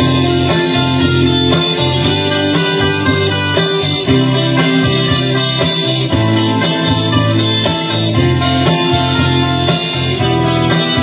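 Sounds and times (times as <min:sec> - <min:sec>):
guitars playing: 0:00.0 - 0:11.0.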